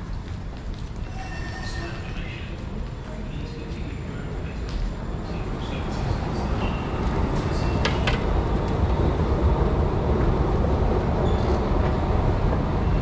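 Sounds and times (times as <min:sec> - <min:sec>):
underground station rumble: 0:00.0 - 0:13.0.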